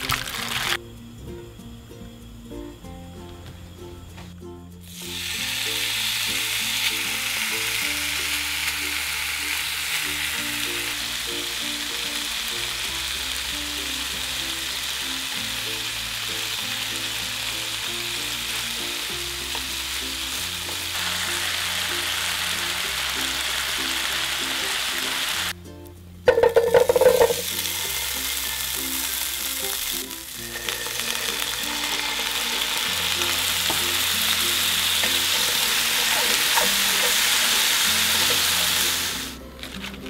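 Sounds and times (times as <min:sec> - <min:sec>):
meat sizzling in hot oil: 0:00.0 - 0:00.8, 0:04.8 - 0:25.5, 0:26.3 - 0:39.4.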